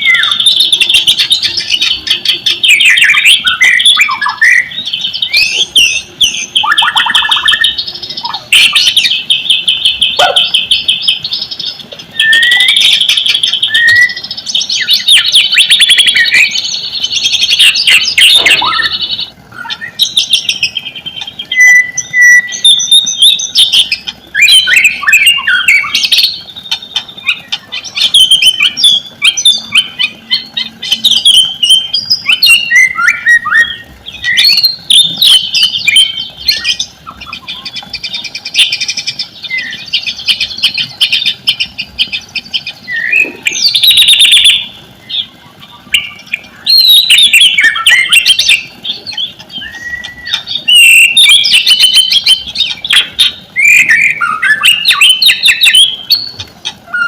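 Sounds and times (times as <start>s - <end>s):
bird singing: 0.0s - 57.0s
harsh bird call: 0.0s - 57.0s.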